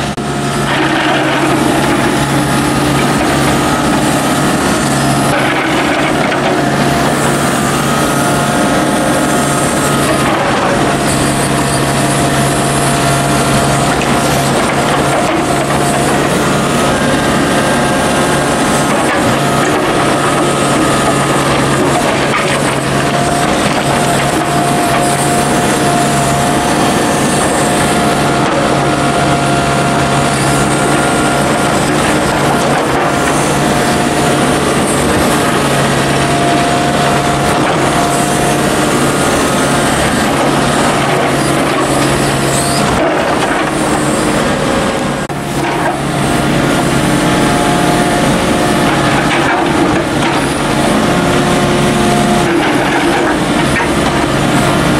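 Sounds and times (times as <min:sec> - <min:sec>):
excavator diesel engine running: 0:00.0 - 0:54.9
steady whining tone: 0:00.0 - 0:54.9.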